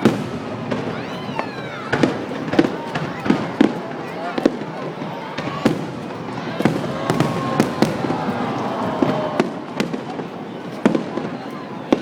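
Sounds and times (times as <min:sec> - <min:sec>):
fireworks bursting: 0:00.0 - 0:12.0
rumble of fireworks show: 0:00.0 - 0:12.0.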